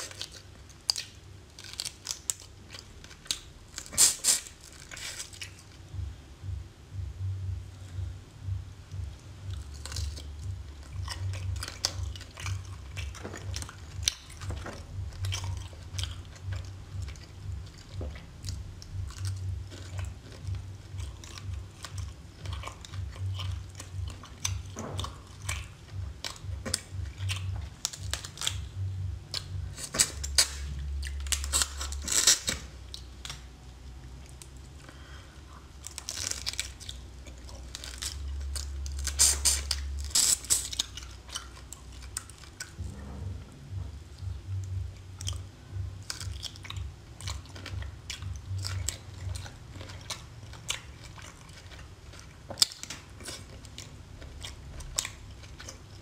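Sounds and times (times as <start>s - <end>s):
wet chewing and mouth clicks: 0.0s - 7.0s, 7.8s - 42.9s, 43.8s - 56.0s.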